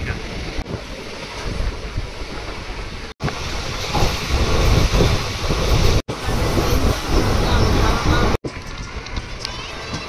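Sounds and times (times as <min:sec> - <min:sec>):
train running rumble: 0:00.0 - 0:10.0
wind buffeting microphone: 0:00.0 - 0:10.0.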